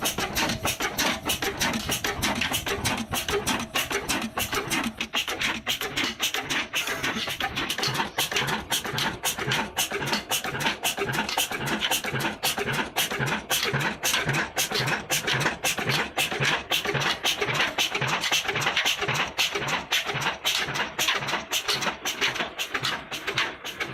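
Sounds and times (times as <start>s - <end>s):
diesel engine clattering: 0.0s - 23.9s.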